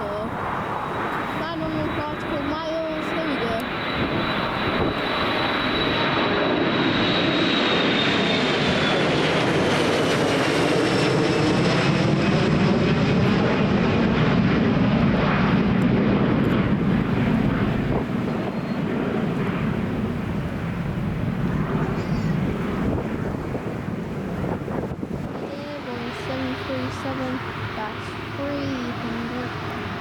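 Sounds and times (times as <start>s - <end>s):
high fan whine: 0.0s - 30.0s
jet engines at high power: 0.0s - 30.0s.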